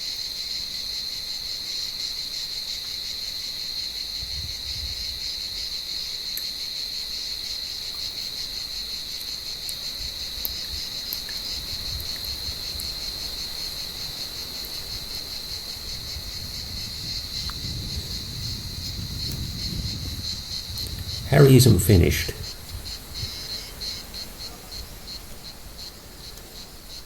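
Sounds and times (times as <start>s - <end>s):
cicadas buzzing: 0.1s - 21.3s, 22.4s - 27.0s.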